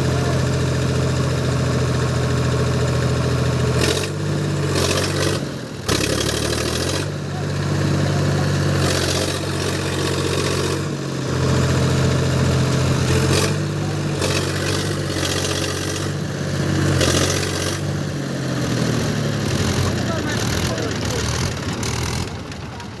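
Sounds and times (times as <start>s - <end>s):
tractor diesel engine revving: 0.0s - 23.0s.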